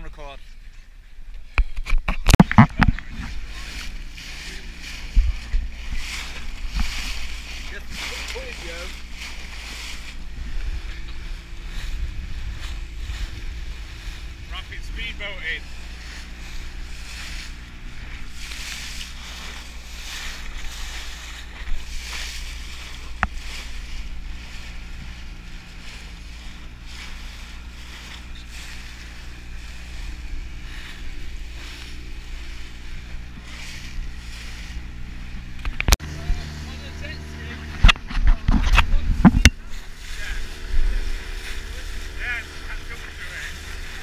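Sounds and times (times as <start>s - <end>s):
outboard motor running: 0.0s - 44.0s
hull slapping waves: 2.4s - 44.0s.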